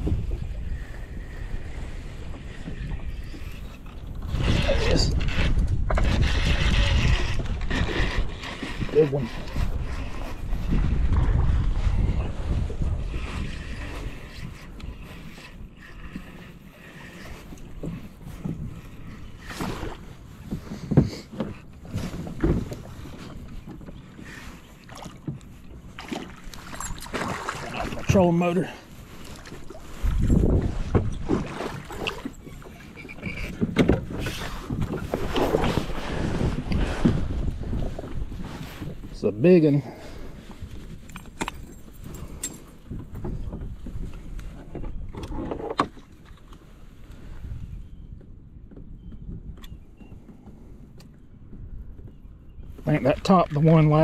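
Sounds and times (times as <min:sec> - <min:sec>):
wind: 0:00.0 - 0:54.0.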